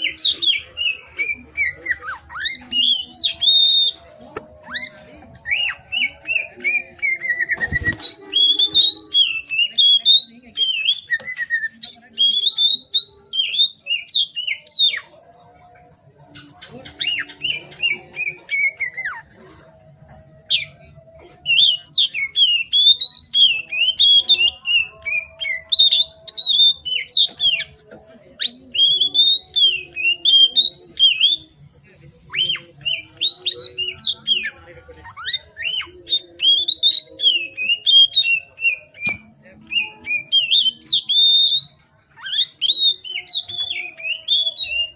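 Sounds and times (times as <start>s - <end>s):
bird singing whistled phrases: 0.0s - 15.1s, 21.4s - 27.8s, 28.4s - 31.5s, 32.3s - 44.9s.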